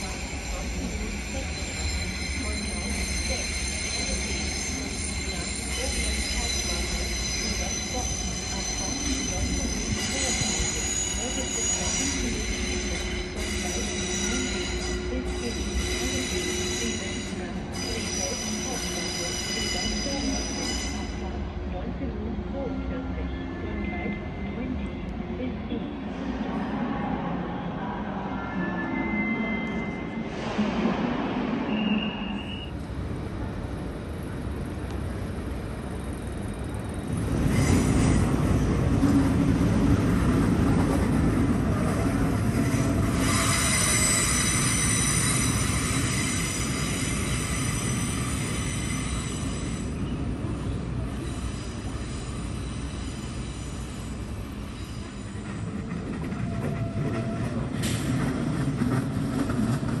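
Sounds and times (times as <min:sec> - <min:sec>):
train wheels squealing: 0:00.0 - 0:21.5, 0:27.5 - 0:30.4, 0:31.6 - 0:32.8, 0:35.9 - 1:00.0
train rumbling over tracks: 0:00.0 - 1:00.0.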